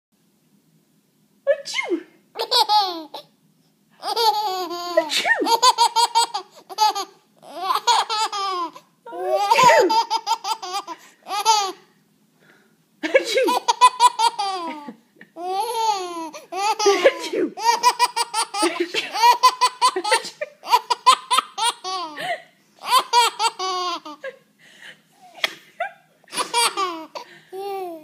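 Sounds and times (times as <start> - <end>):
baby laughing: 2.4 - 3.3, 4.0 - 11.9, 13.0 - 24.4, 25.2 - 28.0.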